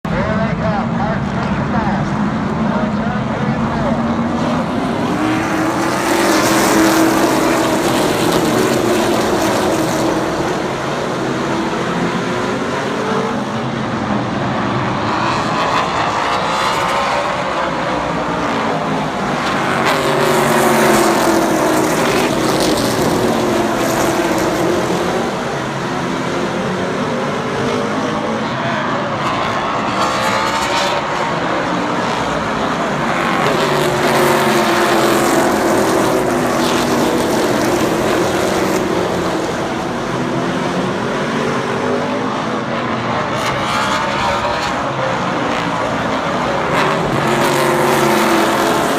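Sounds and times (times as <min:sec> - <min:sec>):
race car engines passing: 0:00.1 - 0:48.9.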